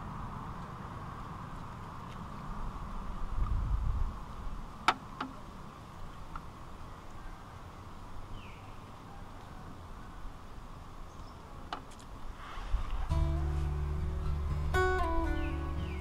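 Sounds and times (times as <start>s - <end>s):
outdoor background drone: 0.0s - 16.0s.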